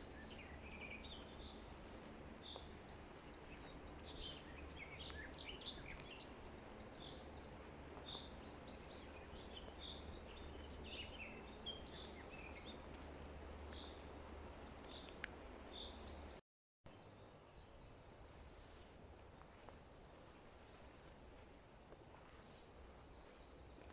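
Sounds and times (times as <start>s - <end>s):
small birds chirping: 0.0s - 18.9s, 19.5s - 23.9s.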